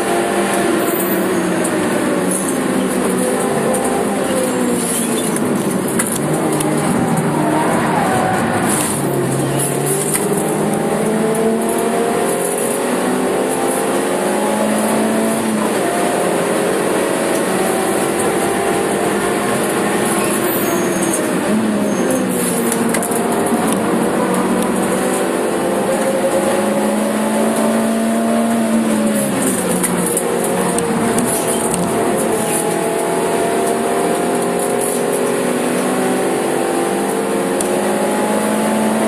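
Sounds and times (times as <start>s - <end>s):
car engine revving: 0.0s - 39.0s
road and wind noise: 0.0s - 39.0s.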